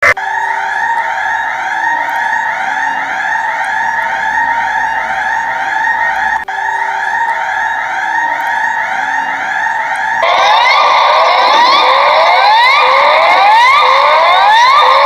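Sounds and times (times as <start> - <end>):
emergency alert alarm: 0.0 - 15.0.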